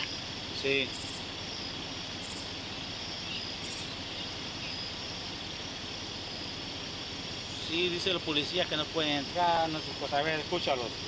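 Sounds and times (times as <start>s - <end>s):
insect chirping: 0.0s - 11.0s
outdoor background hiss: 0.0s - 11.0s.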